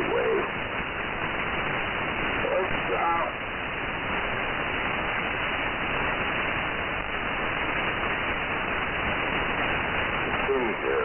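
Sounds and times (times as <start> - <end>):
shortwave radio static hiss: 0.0 - 11.0.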